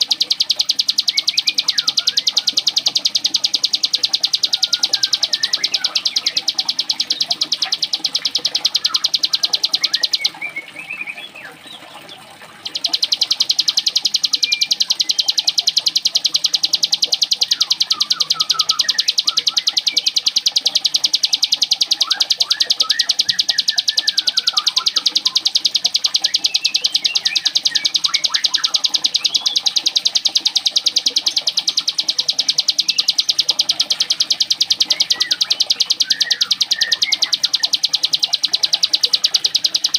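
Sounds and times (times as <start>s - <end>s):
bird chirps and calls: 0.0s - 39.9s
bird singing machine-like trill: 0.0s - 39.9s.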